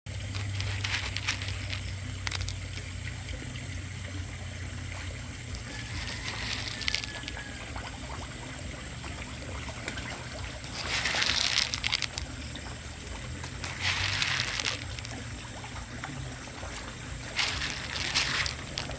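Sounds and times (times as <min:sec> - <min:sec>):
water trickling and splashing: 0:00.1 - 0:18.9.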